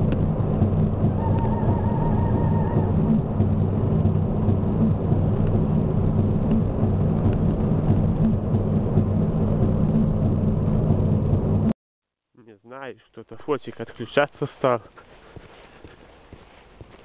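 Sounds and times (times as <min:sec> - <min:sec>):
car engine and tyre rumble: 0:00.0 - 0:11.7, 0:15.1 - 0:17.0.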